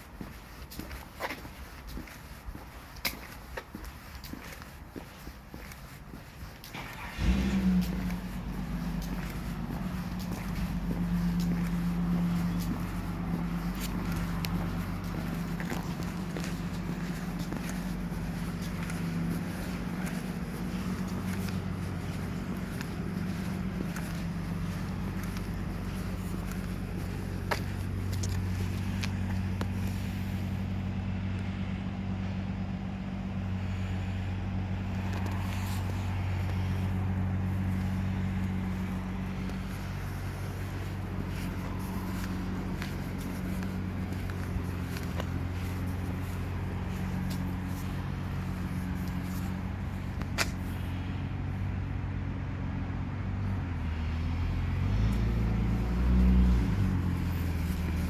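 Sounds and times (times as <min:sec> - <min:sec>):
idling vehicle hum: 0:00.0 - 0:58.0.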